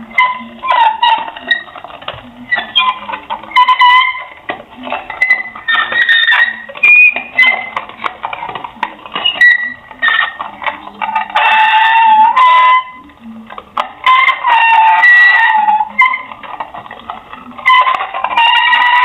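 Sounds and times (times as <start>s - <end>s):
high squeaks and creaks: 0.0s - 19.0s.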